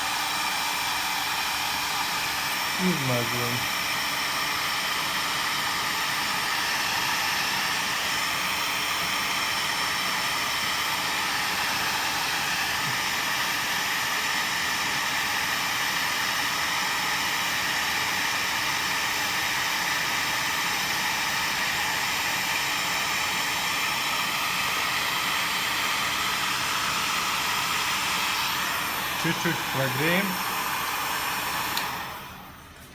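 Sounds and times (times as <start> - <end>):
hot-air blower hissing: 0.0 - 32.9.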